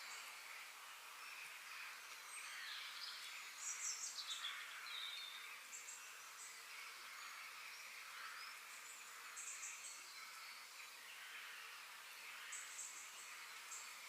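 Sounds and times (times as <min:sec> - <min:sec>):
small birds chirping: 0:00.0 - 0:14.0
soft hiss of distant insects: 0:00.0 - 0:14.0.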